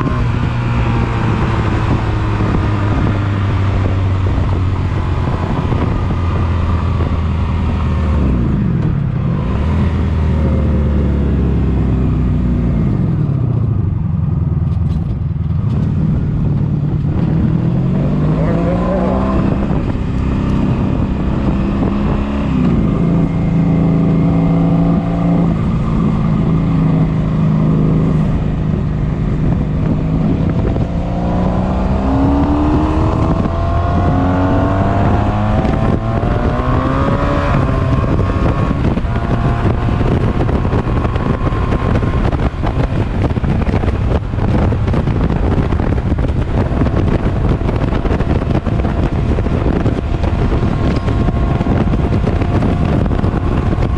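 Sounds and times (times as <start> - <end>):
motorcycle engine revving: 0.0 - 53.9
wind buffeting microphone: 0.0 - 53.9.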